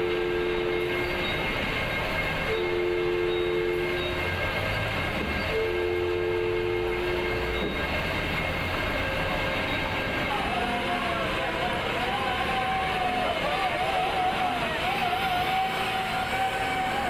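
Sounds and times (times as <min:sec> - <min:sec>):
two-note horn blasts: 0:00.0 - 0:17.0.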